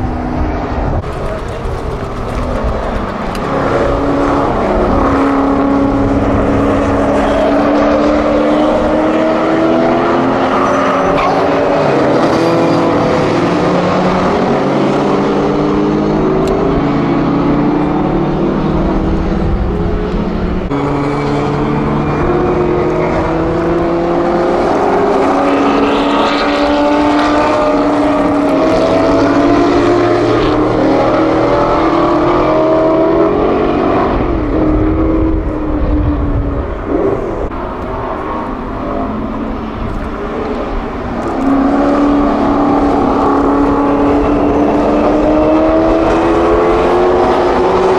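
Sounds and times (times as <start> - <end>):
race car engine at full throttle: 0.0 - 47.9.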